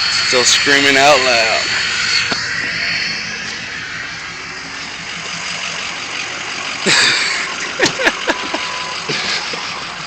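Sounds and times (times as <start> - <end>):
sharp downward-sweeping sounds: 0.0 - 9.7
pickup engine idling: 0.0 - 10.0.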